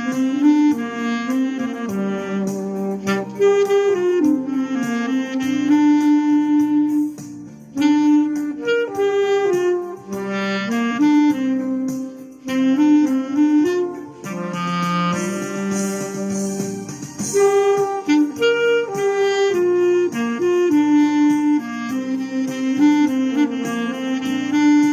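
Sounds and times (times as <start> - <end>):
backing track with steady beat: 0.0 - 24.9
clarinet playing melody: 0.0 - 24.9.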